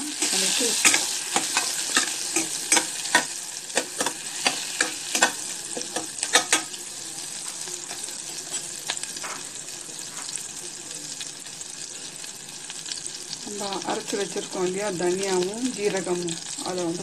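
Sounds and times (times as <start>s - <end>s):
chillies sizzling in butter: 0.0s - 17.0s.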